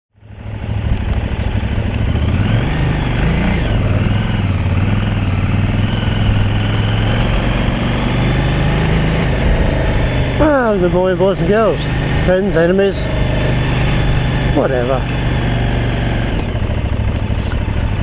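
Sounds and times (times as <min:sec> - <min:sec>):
motorcycle engine running: 0:00.2 - 0:18.0.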